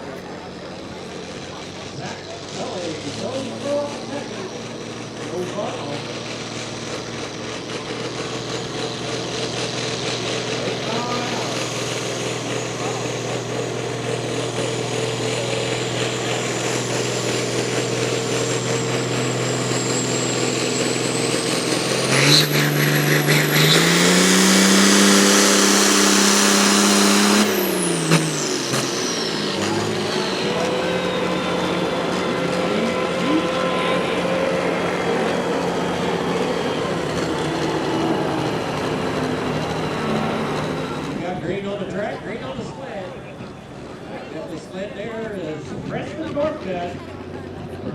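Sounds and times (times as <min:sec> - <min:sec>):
engine revving: 0:00.0 - 0:47.9
high turbo whine: 0:00.0 - 0:47.9.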